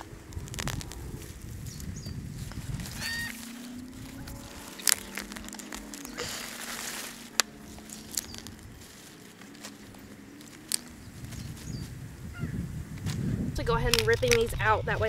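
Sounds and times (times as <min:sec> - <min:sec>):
leaves rustling and tearing: 0:00.0 - 0:13.2.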